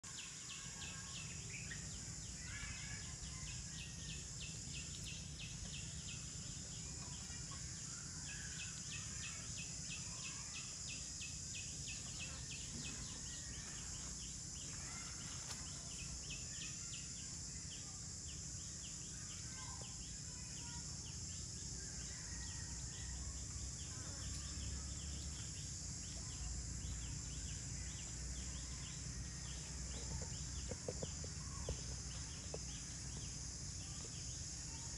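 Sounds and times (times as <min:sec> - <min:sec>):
fast pulsing insect chirp: 0:00.0 - 0:34.9
high insect buzz: 0:00.1 - 0:34.9.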